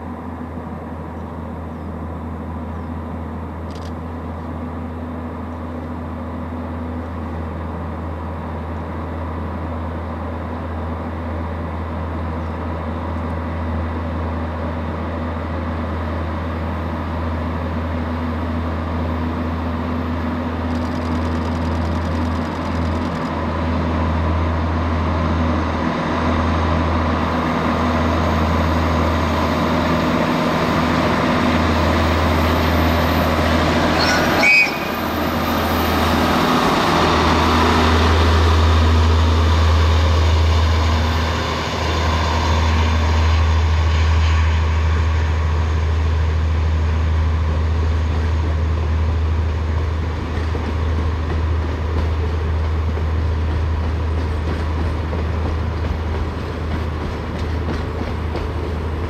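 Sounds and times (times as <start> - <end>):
diesel train engine drone: 0.0 - 59.0.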